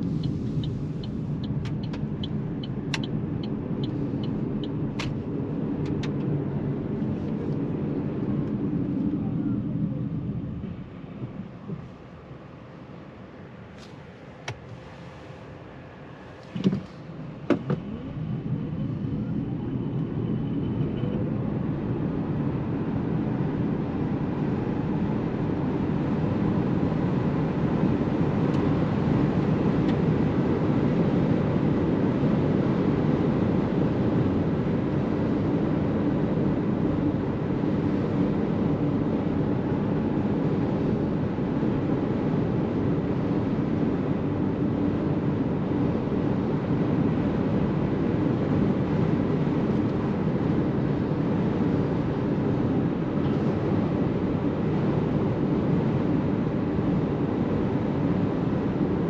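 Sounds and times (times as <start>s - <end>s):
tyre and wind noise roar: 0.0s - 59.0s.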